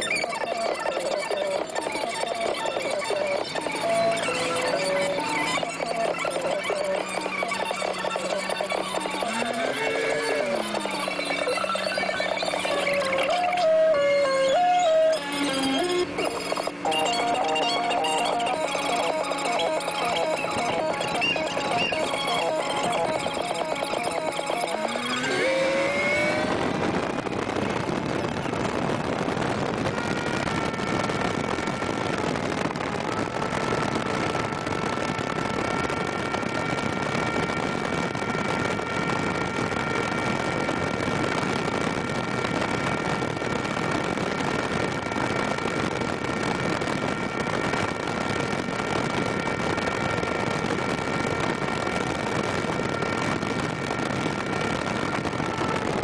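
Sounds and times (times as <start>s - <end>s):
outboard motor running: 0.0s - 56.0s
steady high whine: 0.0s - 56.0s.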